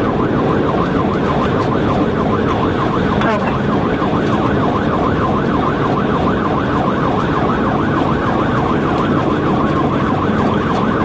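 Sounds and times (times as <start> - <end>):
car road and engine noise: 0.0 - 11.0
police siren yelping: 0.0 - 11.0.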